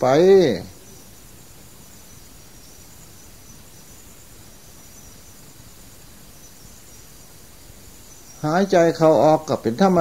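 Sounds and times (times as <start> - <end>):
background hiss: 0.0 - 10.0
faint high steady tones: 0.0 - 10.0.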